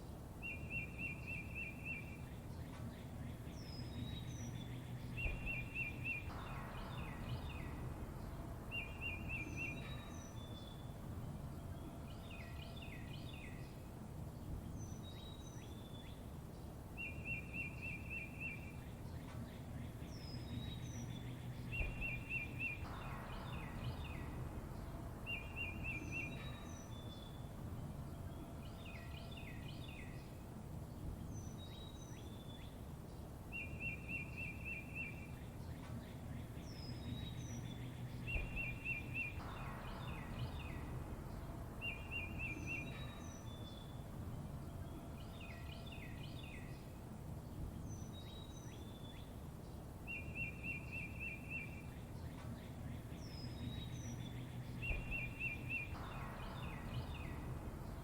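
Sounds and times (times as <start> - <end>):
low background rumble: 0.0 - 58.0
songbirds chirping and trilling: 0.0 - 58.0.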